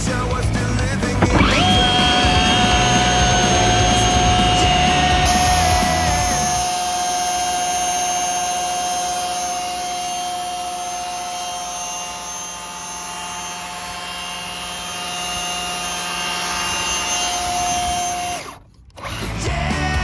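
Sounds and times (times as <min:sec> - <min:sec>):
electric motor whining: 0:00.9 - 0:19.5.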